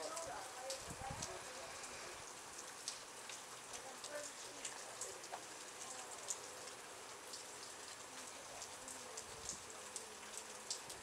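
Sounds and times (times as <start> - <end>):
raindrops ticking on surfaces: 0.0 - 11.0
steady rain hiss: 0.0 - 11.0.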